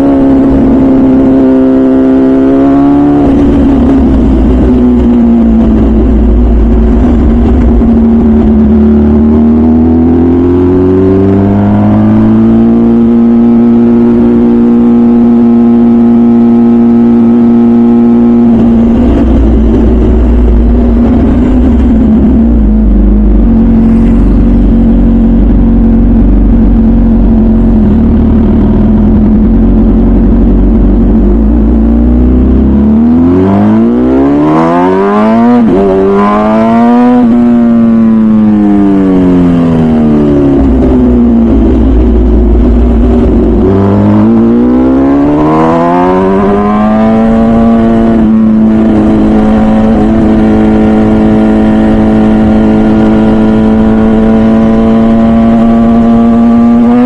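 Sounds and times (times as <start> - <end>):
motorcycle engine revving: 0.0 - 57.0
wind rumble: 0.0 - 57.0.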